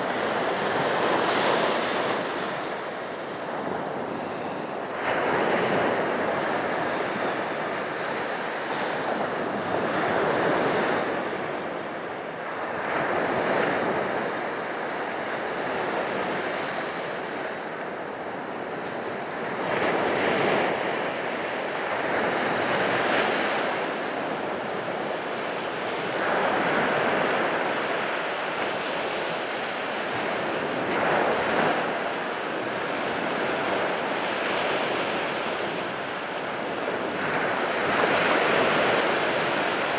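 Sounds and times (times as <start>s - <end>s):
waves crashing on beach: 0.0s - 39.9s.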